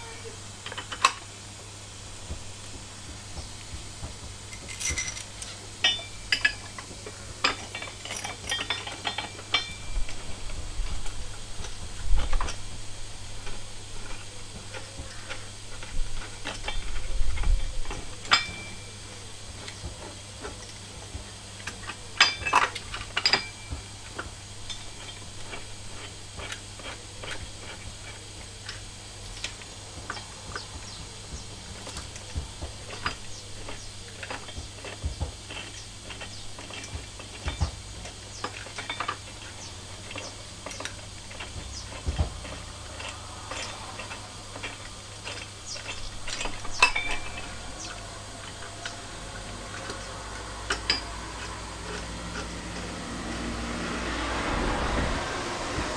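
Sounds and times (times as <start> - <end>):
steady low hum: 0.0 - 55.9
metallic clicks of tools and bolts: 0.6 - 1.3, 4.5 - 12.8, 13.4 - 55.9.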